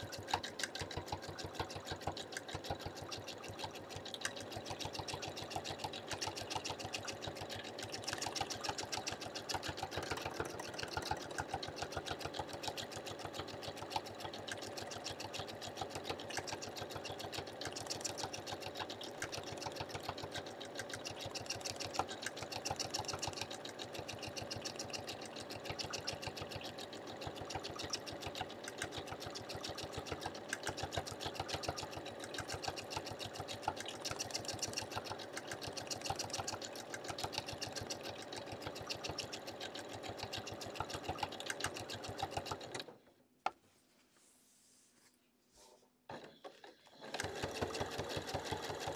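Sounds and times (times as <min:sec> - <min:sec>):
sewing machine stitching: 0:00.0 - 0:43.1, 0:46.1 - 0:48.9.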